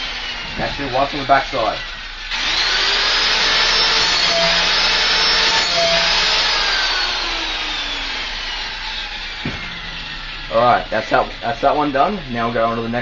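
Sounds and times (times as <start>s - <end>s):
angle grinder grinding metal: 0.0s - 13.0s
grinder disc spinning down: 0.0s - 13.0s.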